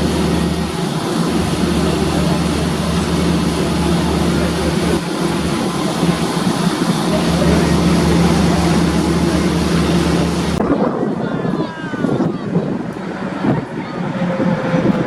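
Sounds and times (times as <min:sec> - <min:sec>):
heavy rushing noise: 0:00.0 - 0:15.0
propeller aircraft engine drone: 0:00.0 - 0:15.0.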